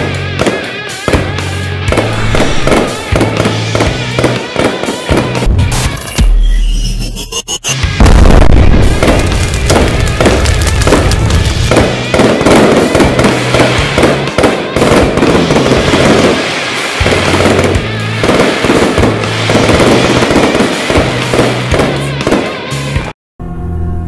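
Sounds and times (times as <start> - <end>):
fireworks crackling and popping: 0.0 - 6.1, 8.0 - 23.1
music with low bass line: 0.0 - 23.6.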